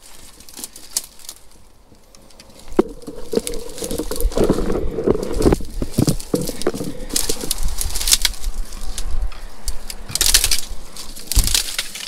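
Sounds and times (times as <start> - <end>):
footsteps crunching on rough ground: 0.0 - 12.0.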